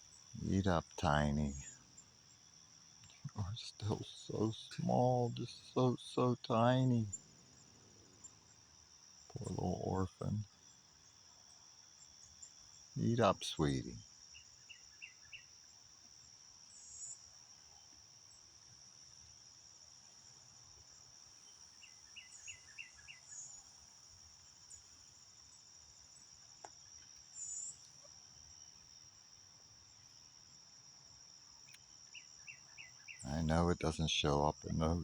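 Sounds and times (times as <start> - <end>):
insect drone: 0.0 - 35.0
quick insect chirps: 0.0 - 35.0.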